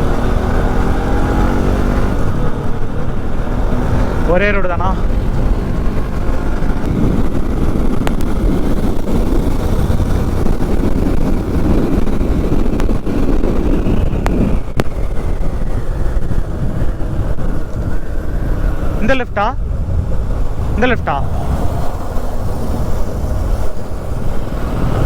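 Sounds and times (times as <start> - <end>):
motorcycle engine running: 0.0 - 25.0
wind rumble on microphone: 0.0 - 25.0.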